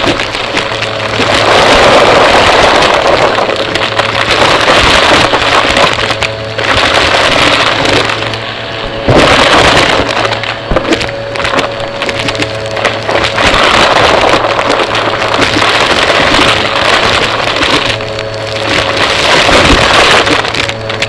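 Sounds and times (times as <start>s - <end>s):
debris crackling and rattling: 0.0s - 21.0s
vacuum cleaner running: 0.0s - 21.0s.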